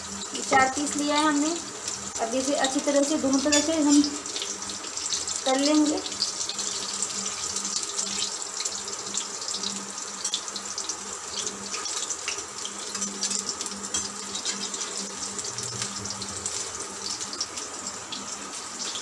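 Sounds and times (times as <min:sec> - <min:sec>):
pakoras sizzling in hot oil: 0:00.0 - 0:19.0.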